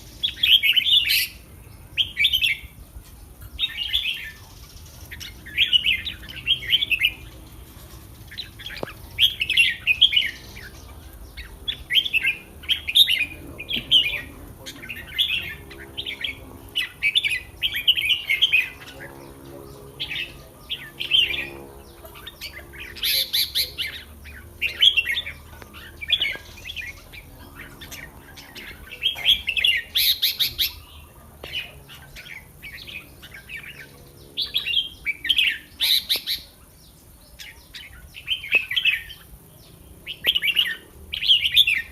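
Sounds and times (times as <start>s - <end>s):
bird singing warbled phrases: 0.0s - 41.9s.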